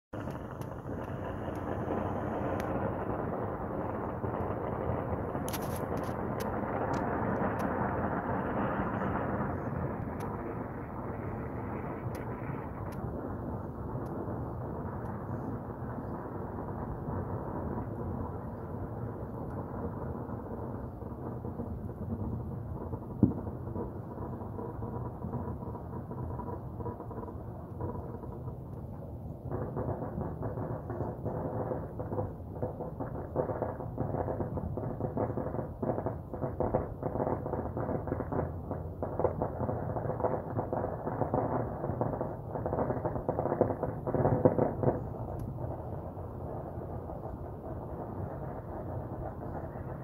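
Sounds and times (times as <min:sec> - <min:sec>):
distant firecrackers popping: 0:00.2 - 0:50.0.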